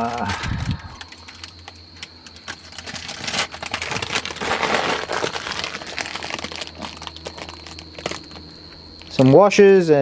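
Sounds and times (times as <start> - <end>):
chip packet crinkling: 0.0 - 9.2.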